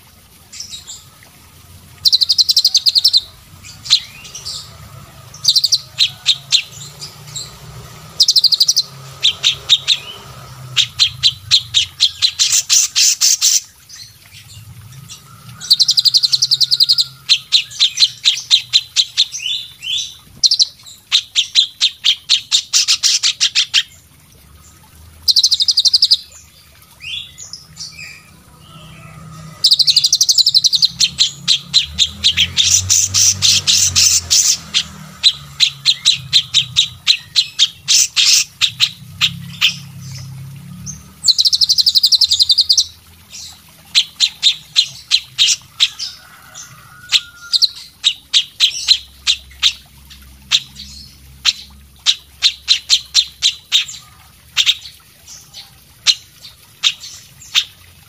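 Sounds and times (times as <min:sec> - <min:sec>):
songbirds calling: 0:00.0 - 0:58.0.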